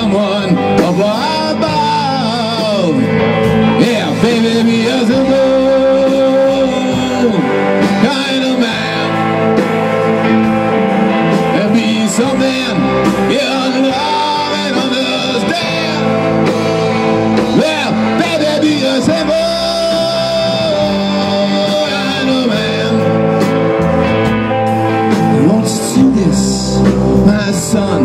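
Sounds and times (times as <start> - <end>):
drum kit: 0.0 - 28.0
electric bass: 0.0 - 28.0
electric guitars: 0.0 - 28.0.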